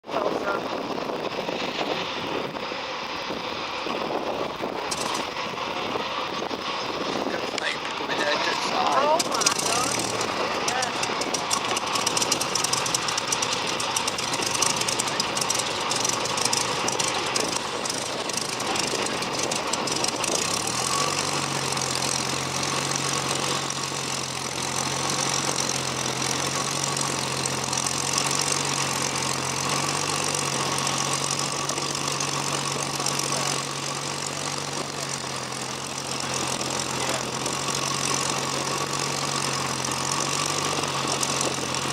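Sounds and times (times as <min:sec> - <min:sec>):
aircraft piston engine starting: 0:00.1 - 0:41.9.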